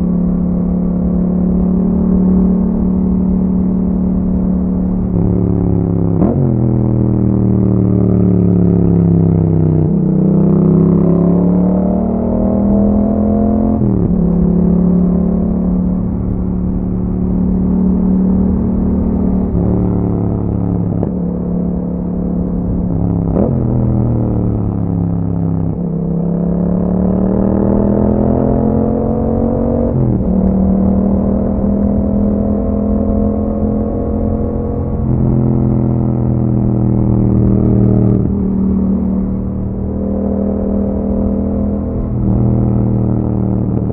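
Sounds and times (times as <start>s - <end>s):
motorcycle engine revving: 1.6s - 43.9s.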